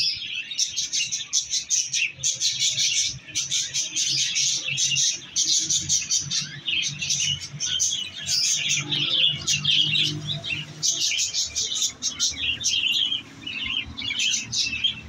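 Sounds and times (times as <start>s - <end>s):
budgerigars chirping and chattering: 0.0s - 15.0s.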